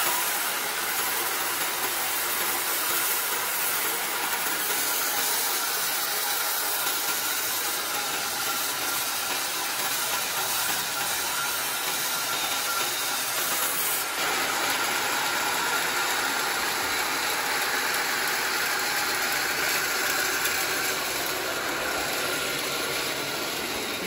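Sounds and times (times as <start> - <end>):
band saw cutting log: 0.0 - 24.0
electric motor running: 0.0 - 24.0.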